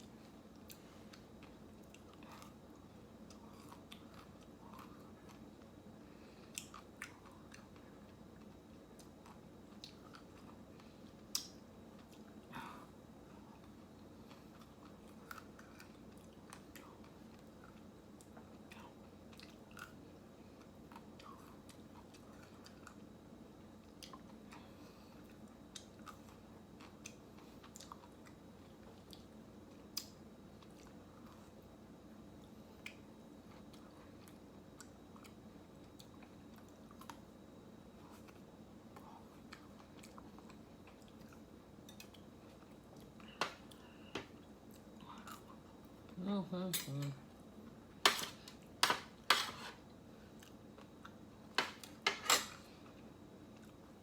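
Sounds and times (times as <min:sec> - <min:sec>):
steady low hum: 0:00.0 - 0:54.0
person chewing ice cream: 0:00.1 - 0:23.1, 0:23.7 - 0:31.7, 0:32.8 - 0:46.2.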